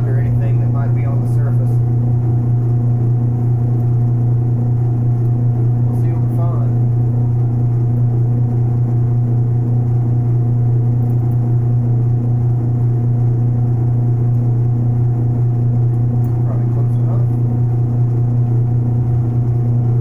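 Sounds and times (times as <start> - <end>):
metal lathe humming: 0.0 - 20.0.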